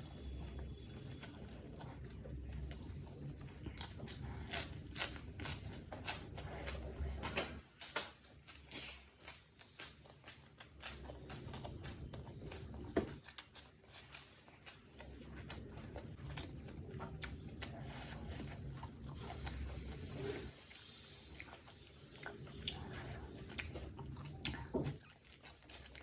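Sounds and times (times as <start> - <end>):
close chewing: 0.0 - 26.0.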